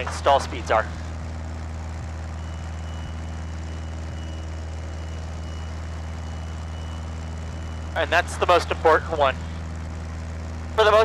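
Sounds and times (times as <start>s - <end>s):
airplane engine and propeller droning: 0.0s - 11.0s
faint high whine: 0.0s - 11.0s.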